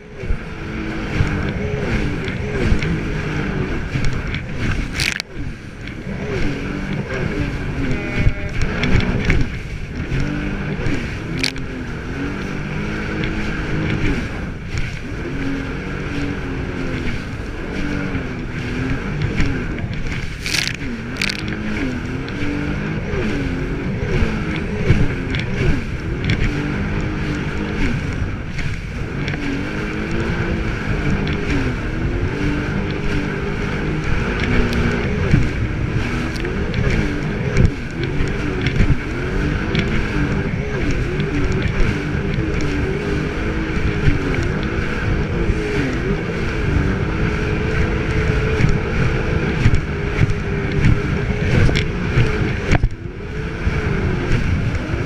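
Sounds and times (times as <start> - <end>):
jet ski engine running: 0.0 - 55.0
water and wind rushing: 0.0 - 55.0.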